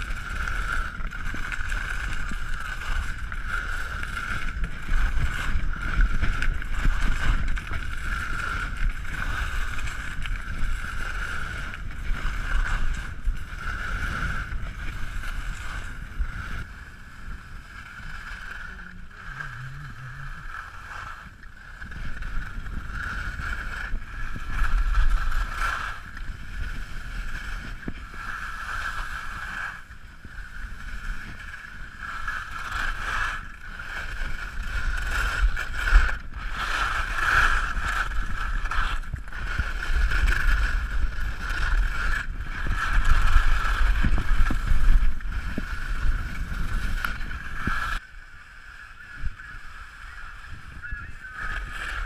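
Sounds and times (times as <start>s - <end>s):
wind buffeting microphone: 0.0s - 48.1s, 49.0s - 52.0s
skis scraping over packed snow: 0.0s - 52.0s.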